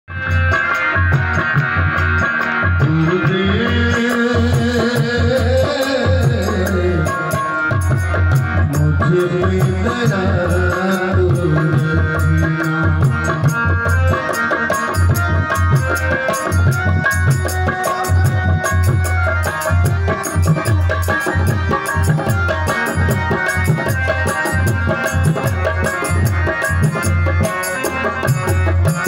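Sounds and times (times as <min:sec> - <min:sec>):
harmonium melody: 0:00.1 - 0:29.0
hand drum rhythm: 0:00.2 - 0:29.0.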